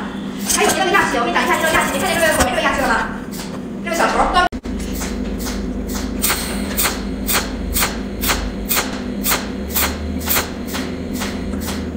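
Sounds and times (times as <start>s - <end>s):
low electrical hum: 0.0s - 11.9s.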